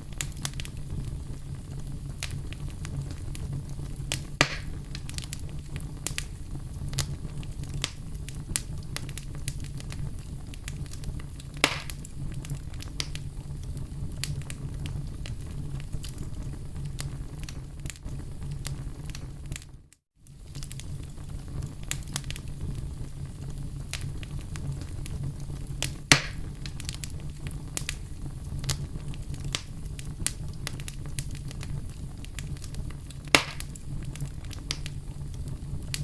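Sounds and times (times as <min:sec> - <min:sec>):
fire crackling: 0:00.0 - 0:36.0
fire rumbling: 0:00.0 - 0:36.0
wood fire popping: 0:00.0 - 0:36.0.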